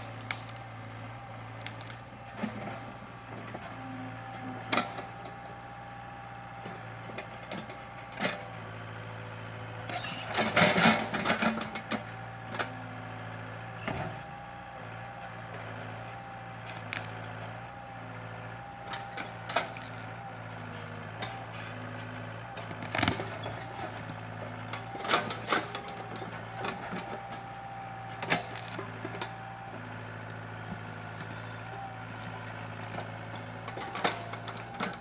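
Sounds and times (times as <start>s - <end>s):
hydraulics whining: 0.0s - 35.0s
mini excavator running: 0.0s - 35.0s.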